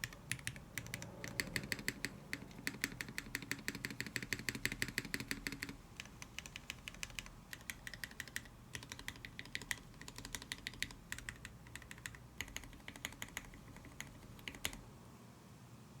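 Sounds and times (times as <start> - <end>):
mechanical keyboard key clacks: 0.0 - 14.8.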